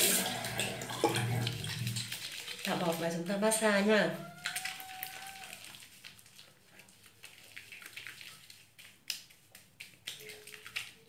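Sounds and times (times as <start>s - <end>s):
hands rubbing foamy cleanser: 1.6s - 11.0s.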